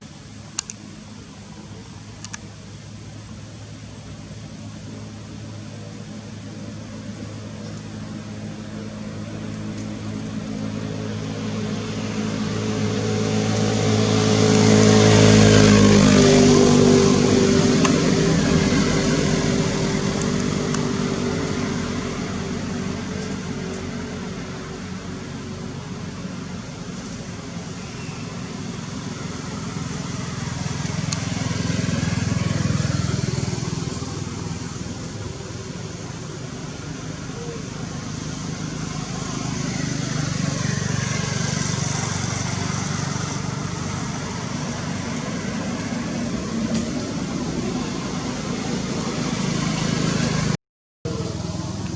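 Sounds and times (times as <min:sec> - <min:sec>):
motor vehicle passing by: 0:05.4 - 0:51.9.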